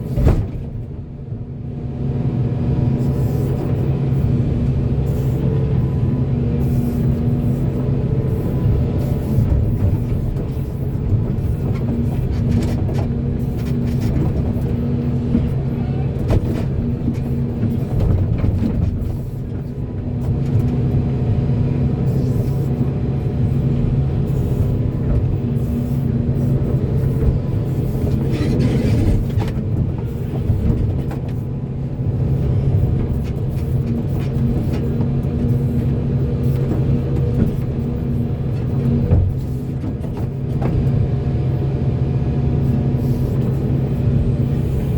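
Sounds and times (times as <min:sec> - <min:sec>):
excavator diesel engine: 0:00.0 - 0:44.9.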